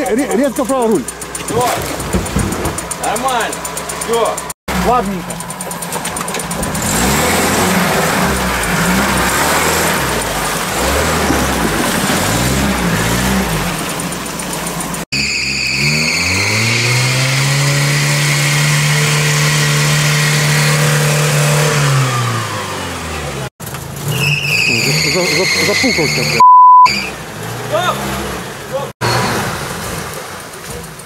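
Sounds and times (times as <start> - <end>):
off-road engine revving: 0.0 - 31.0.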